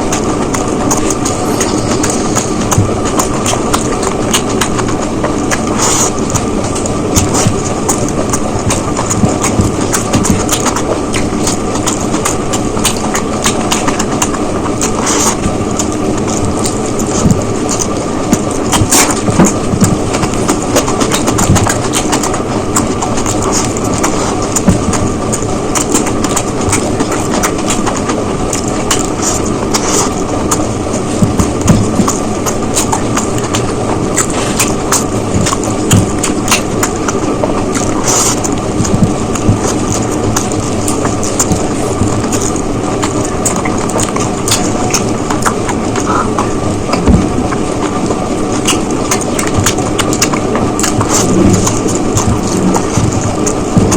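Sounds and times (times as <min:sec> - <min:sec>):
person chewing with mouth clicks: 0:00.0 - 0:53.9
steady background noise: 0:00.0 - 0:53.9
steady low rumble: 0:00.0 - 0:53.9.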